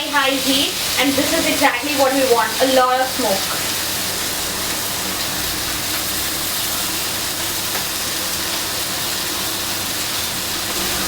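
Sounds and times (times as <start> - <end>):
chicken sizzling on a skillet: 0.0 - 11.0.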